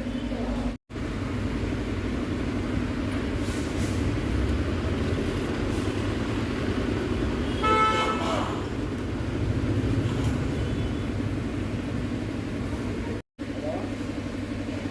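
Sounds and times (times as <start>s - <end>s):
road traffic rumble: 0.0s - 14.9s.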